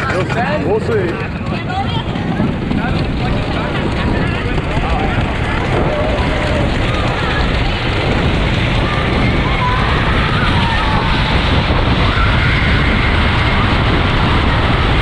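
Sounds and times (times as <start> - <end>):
roller coaster rumbling and rattling: 0.0 - 15.0
wind rushing on microphone: 0.0 - 15.0.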